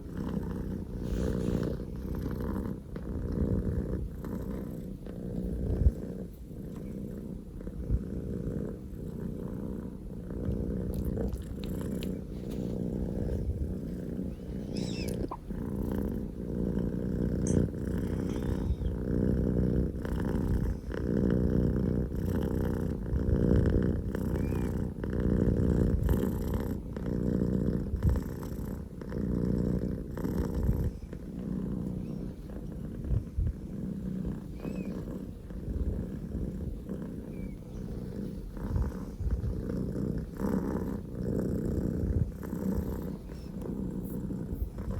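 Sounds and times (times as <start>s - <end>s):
kitten purring loudly: 0.0s - 44.9s.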